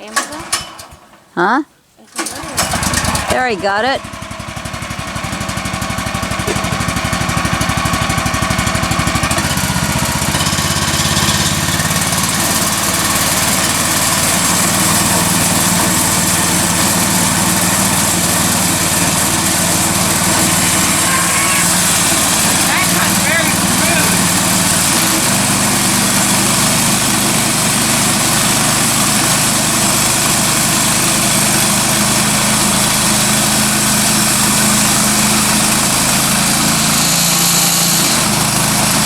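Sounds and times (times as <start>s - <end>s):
small gasoline engine running: 2.2s - 39.0s.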